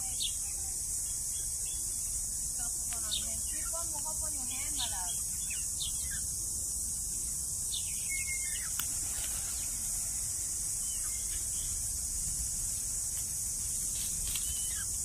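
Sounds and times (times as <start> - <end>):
insects chorus: 0.0 - 15.0
small birds chirping: 0.0 - 15.0.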